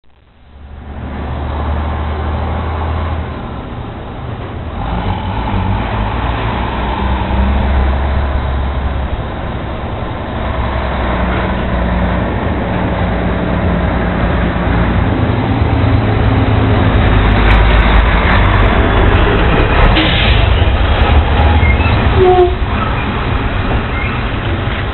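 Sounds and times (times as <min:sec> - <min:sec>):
garbage truck diesel engine: 0:00.1 - 0:24.9.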